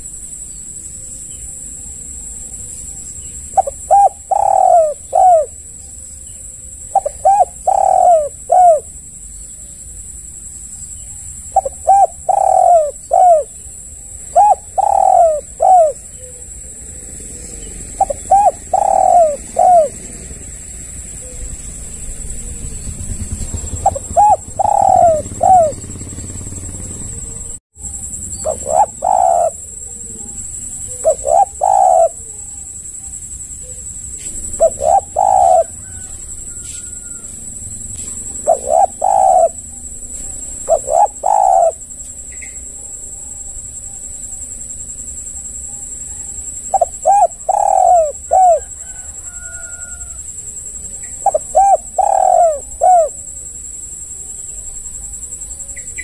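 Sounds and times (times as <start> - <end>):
dove cooing: 0.9 - 10.0, 10.9 - 44.4, 45.1 - 56.0.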